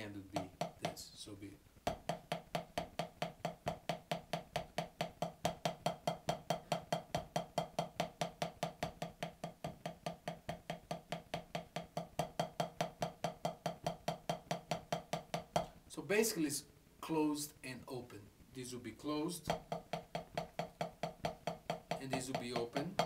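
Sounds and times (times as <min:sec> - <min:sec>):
drumstick taps on practice pad: 0:00.0 - 0:01.1, 0:01.8 - 0:15.7, 0:19.5 - 0:23.0.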